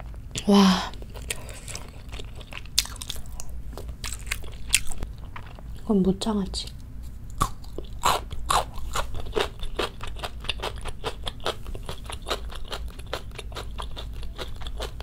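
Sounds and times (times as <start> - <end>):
crunchy chewing: 0.9 - 5.7, 7.3 - 15.0.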